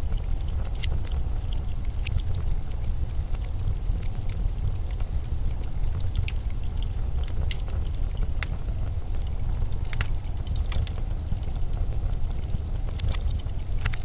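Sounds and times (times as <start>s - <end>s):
small scattered ticks and crackles: 0.0s - 14.0s.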